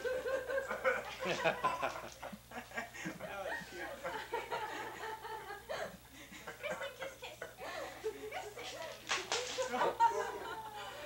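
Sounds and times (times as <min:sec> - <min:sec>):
people laughing and chattering: 0:00.0 - 0:11.0
steady low hum: 0:00.0 - 0:11.0.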